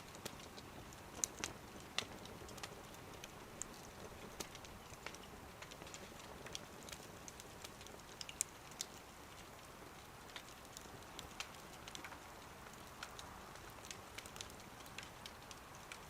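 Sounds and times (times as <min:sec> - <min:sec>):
wood fire crackling in a stove: 0:00.0 - 0:16.0.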